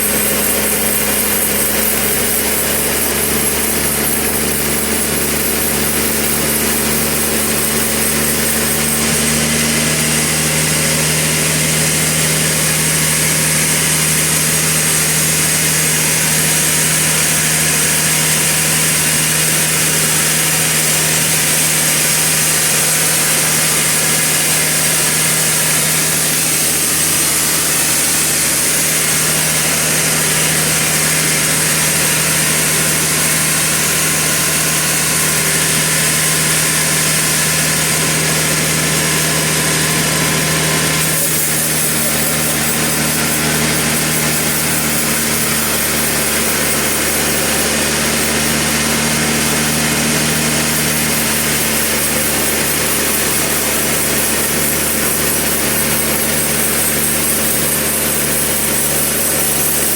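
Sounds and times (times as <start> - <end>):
sawmill saw humming: 0.0 - 59.9.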